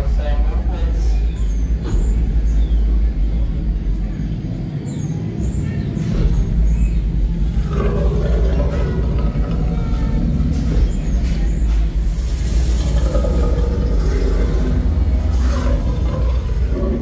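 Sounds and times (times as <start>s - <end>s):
deep ambient rumble: 0.0s - 17.0s.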